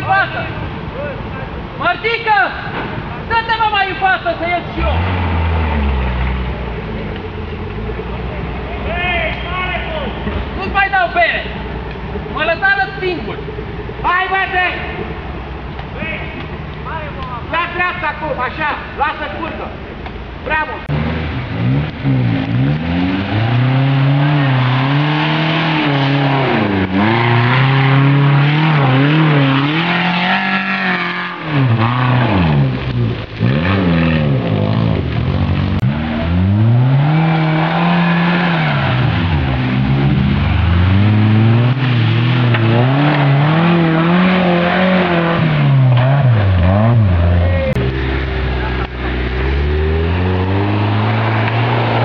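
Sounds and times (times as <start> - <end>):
off-road vehicle engine revving: 0.0 - 52.0.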